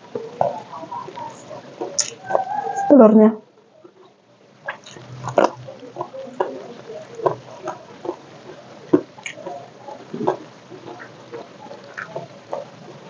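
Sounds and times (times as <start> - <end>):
chewing crispy food: 0.0 - 2.8, 3.8 - 13.0.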